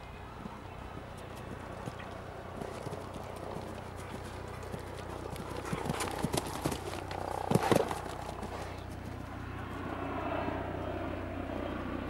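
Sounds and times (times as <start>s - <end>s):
horse hooves cantering on turf: 0.3s - 10.0s.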